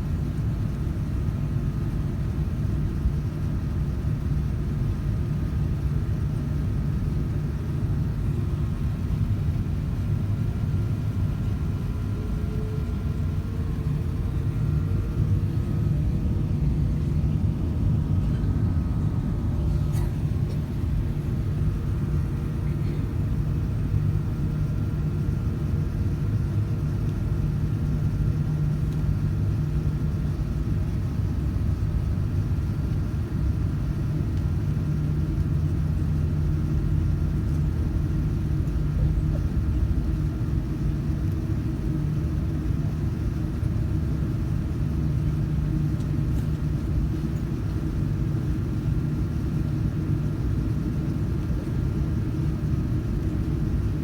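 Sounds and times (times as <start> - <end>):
faint steady hum: 0.0 - 54.0
jet engine drone: 0.1 - 35.8, 36.4 - 54.0.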